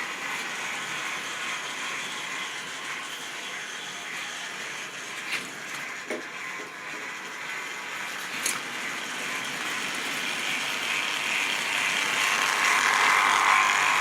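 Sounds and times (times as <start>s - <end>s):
model train motor whirring: 0.0s - 14.0s
wheels running on rails: 0.0s - 14.0s.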